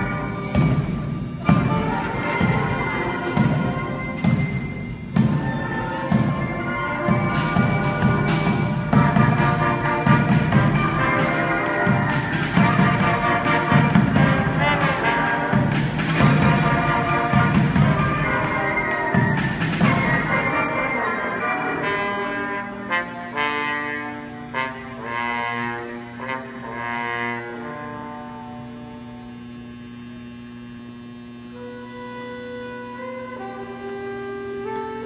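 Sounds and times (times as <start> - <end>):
wind and percussion band playing: 0.0 - 29.3, 31.5 - 35.0.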